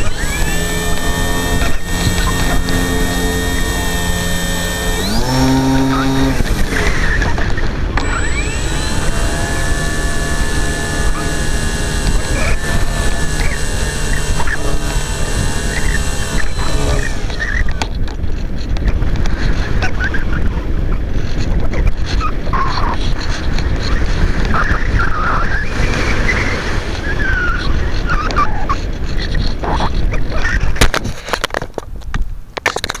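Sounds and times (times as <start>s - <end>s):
wind rushing over microphone: 0.0s - 32.5s.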